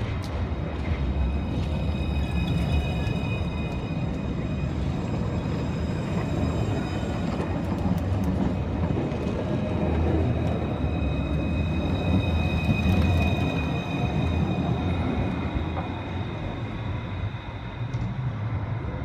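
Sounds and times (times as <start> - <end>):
wheels rumbling on rails: 0.0 - 19.0.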